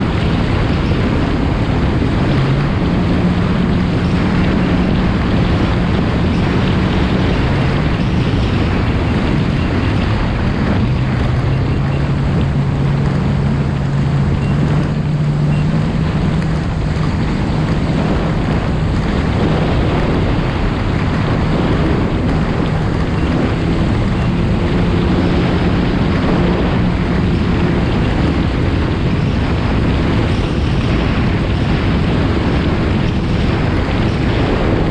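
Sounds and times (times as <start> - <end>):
rushing water: 0.0 - 34.9
watercraft engine running: 0.0 - 34.9
wind buffeting microphone: 0.0 - 34.9.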